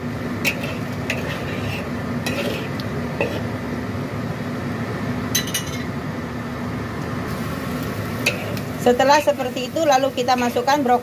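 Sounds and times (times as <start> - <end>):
stove and simmering pan hiss: 0.0 - 11.0.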